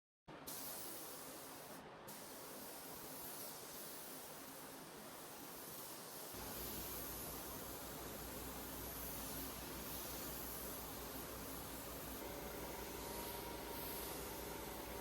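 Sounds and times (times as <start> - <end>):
paint spray gun hissing: 0.5 - 15.0.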